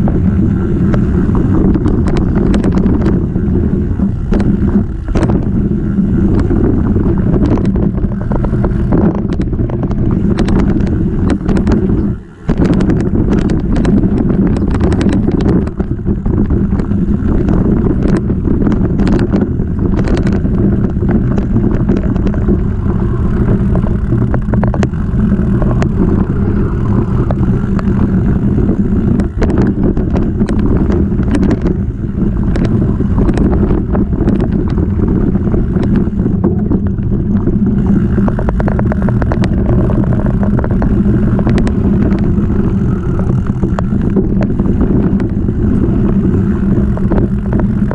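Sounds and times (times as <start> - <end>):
bike frame rattling: 0.0 - 47.9
bike tyre rumble: 0.0 - 47.9
wind on microphone: 0.0 - 47.9.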